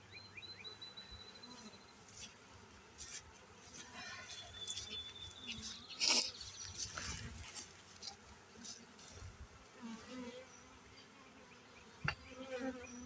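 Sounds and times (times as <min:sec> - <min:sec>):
bees buzzing faintly: 0:00.0 - 0:13.0.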